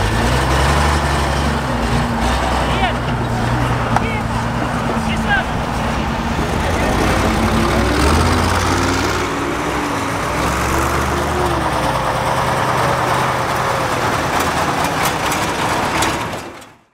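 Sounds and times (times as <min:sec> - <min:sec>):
heavy vehicle engines driving past: 0:00.0 - 0:16.9.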